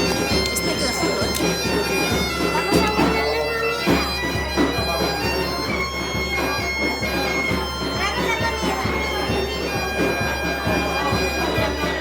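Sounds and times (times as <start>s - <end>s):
bagpipe playing over drone: 0.0s - 12.0s
drum beating: 0.0s - 12.0s.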